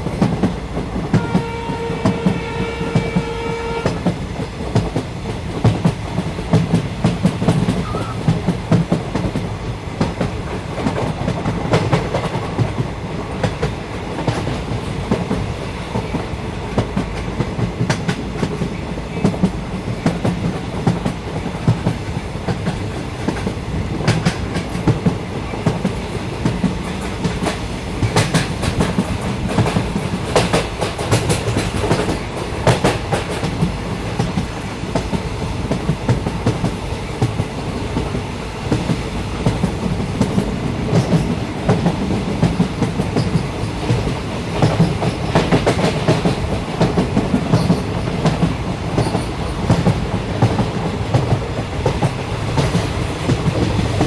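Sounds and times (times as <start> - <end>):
train rumble on board: 0.0 - 54.0.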